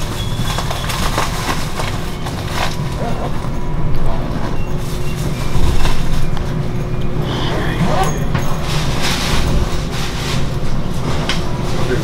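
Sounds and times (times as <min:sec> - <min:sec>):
diesel railcar rumble: 0:00.0 - 0:12.0.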